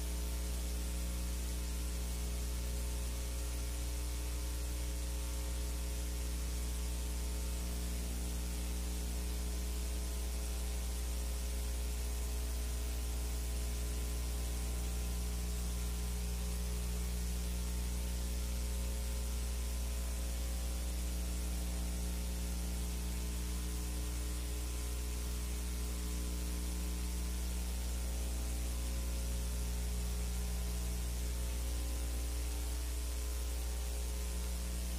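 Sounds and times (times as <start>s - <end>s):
constant hiss: 0.0s - 34.9s
electrical mains hum: 0.0s - 34.9s.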